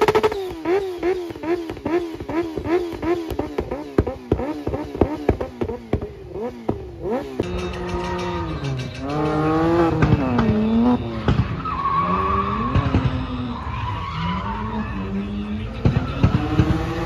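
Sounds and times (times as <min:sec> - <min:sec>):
motorcycle engine revving: 0:00.0 - 0:13.6, 0:14.4 - 0:17.0
car engine at high revs: 0:00.0 - 0:17.0.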